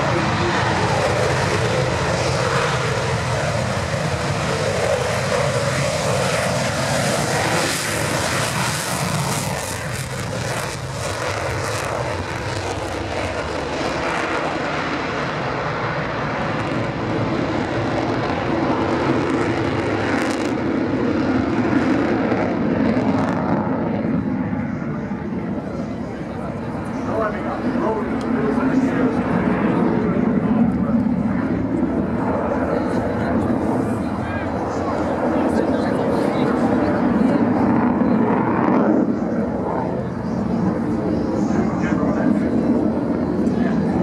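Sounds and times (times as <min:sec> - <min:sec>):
jet roar with crackling: 0:00.0 - 0:44.0.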